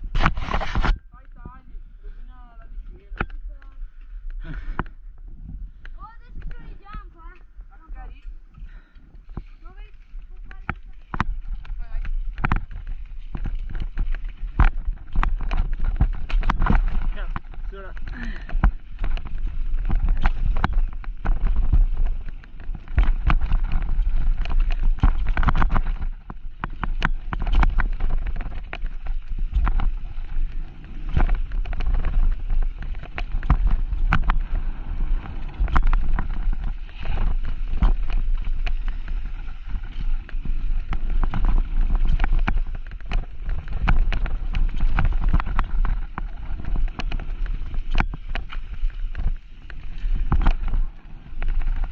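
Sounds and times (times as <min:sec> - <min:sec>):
wind buffeting microphone: 0:00.0 - 0:51.9
bike knocking and rattling: 0:04.4 - 0:51.9.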